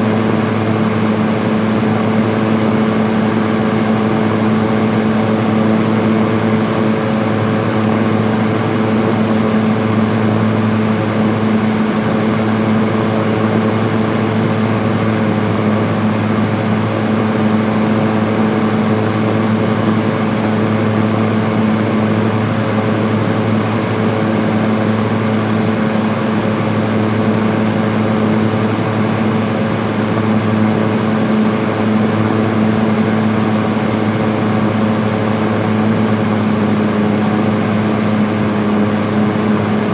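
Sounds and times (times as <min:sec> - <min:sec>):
fan air whooshing: 0:00.0 - 0:39.9
fan motor hum: 0:00.0 - 0:39.9.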